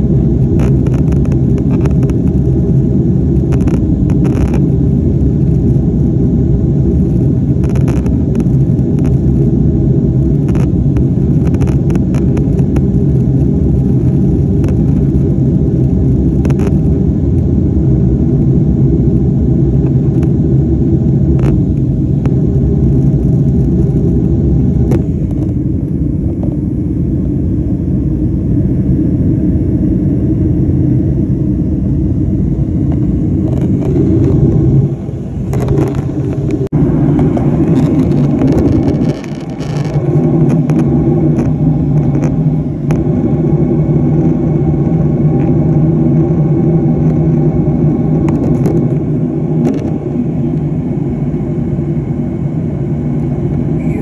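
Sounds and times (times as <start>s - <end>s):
vehicle rumbling from inside: 0.0s - 54.0s.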